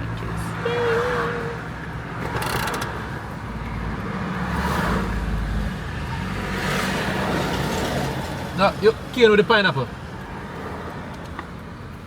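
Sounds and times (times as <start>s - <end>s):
vehicles passing by: 0.0s - 12.0s.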